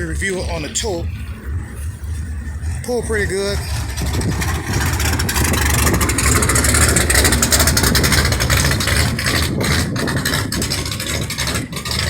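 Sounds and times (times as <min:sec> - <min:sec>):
vehicle engine buzzing rumble: 0:00.0 - 0:12.0.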